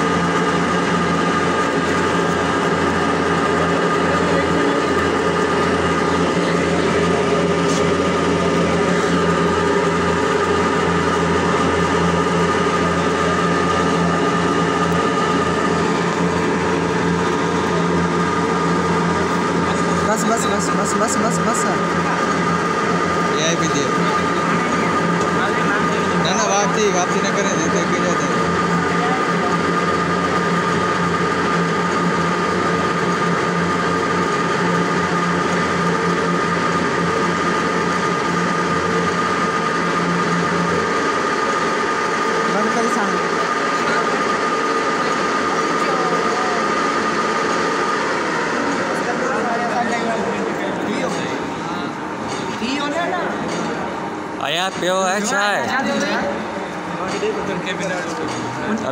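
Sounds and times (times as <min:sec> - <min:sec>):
metal lathe humming: 0:00.0 - 0:58.9.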